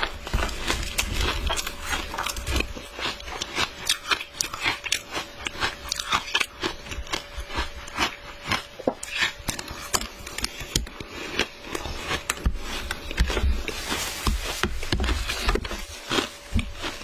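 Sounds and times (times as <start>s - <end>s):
shaved ice being chewed: 0.0s - 17.0s.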